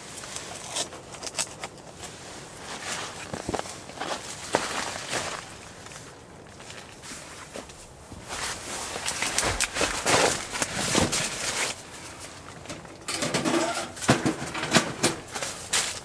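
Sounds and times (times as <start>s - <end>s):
plastic groundsheet rustling: 0.0s - 12.9s, 13.5s - 16.0s.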